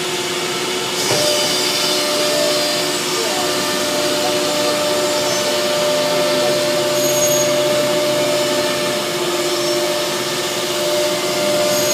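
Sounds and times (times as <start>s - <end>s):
engraving machines running: 0.0s - 11.9s
spindles whining: 0.0s - 11.9s.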